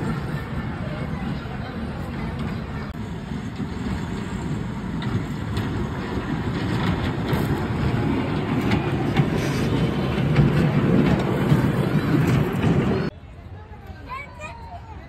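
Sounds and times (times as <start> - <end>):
train wheels rumbling on rails: 0.0 - 13.2.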